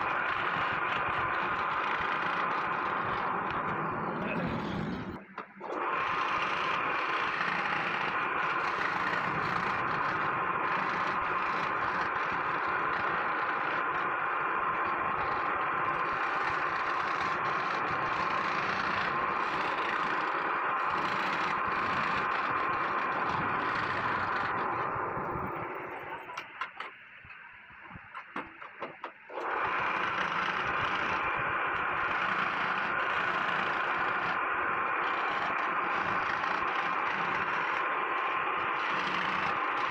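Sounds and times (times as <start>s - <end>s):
small power tool on wood: 0.0s - 39.9s.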